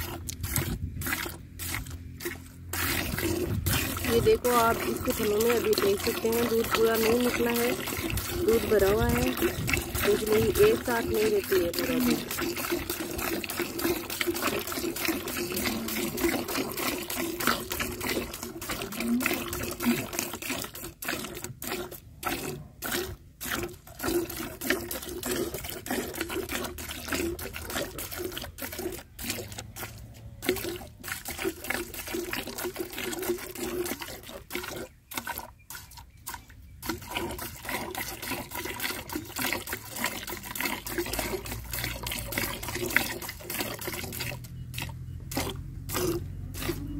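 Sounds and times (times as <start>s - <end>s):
milk squirting into a pail: 0.0s - 46.9s.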